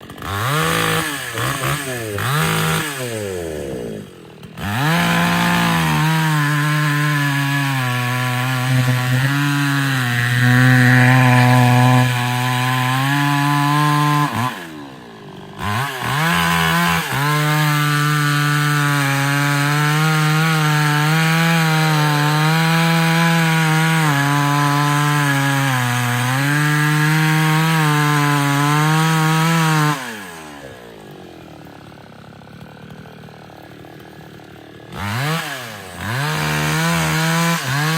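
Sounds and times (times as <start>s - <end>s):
chainsaw cutting wood: 0.0s - 37.9s.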